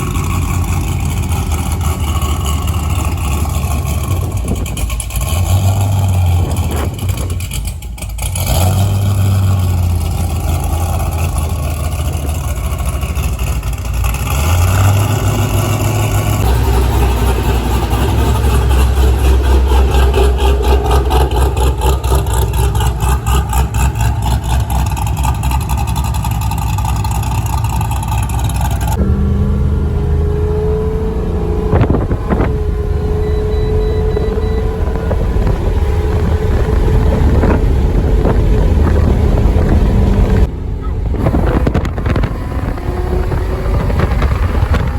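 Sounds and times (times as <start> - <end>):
car engine revving: 0.0 - 44.9
wind noise: 0.0 - 44.9.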